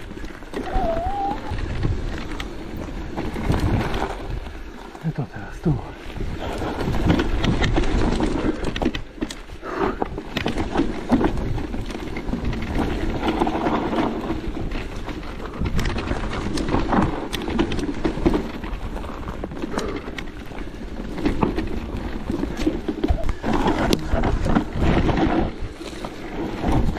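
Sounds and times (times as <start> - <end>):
bike rumble on rough trail: 0.0 - 26.9.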